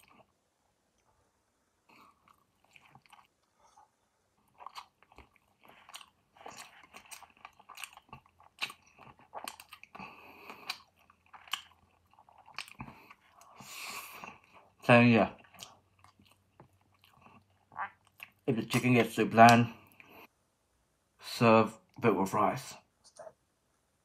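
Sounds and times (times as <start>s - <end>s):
person chewing food: 0.0s - 1.1s, 1.8s - 20.3s.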